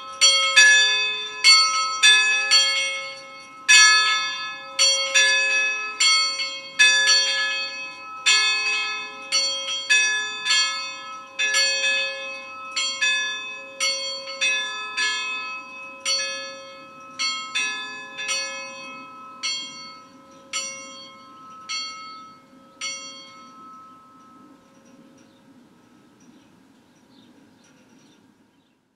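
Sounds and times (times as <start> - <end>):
church bells pealing: 0.0 - 26.7
bells humming: 0.0 - 28.2.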